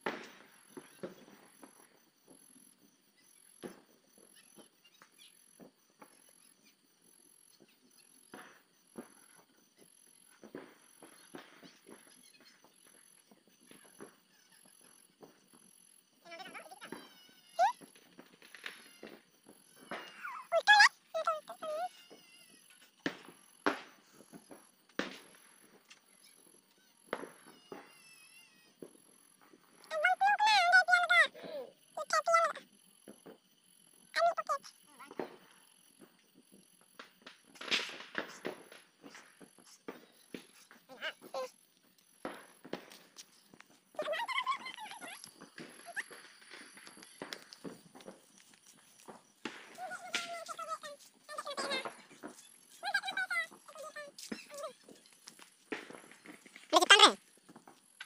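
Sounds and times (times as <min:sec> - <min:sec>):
crickets chirping: 0:00.0 - 0:58.0
firecrackers banging: 0:08.2 - 0:58.0.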